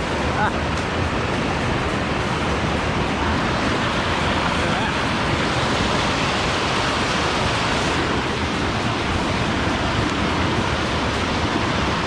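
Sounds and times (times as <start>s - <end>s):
fast-flowing water rushing: 0.0s - 12.0s.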